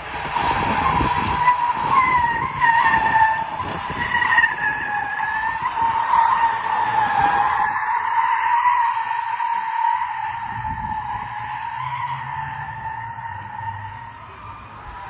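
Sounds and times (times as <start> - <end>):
car tyres squealing: 0.0 - 15.0.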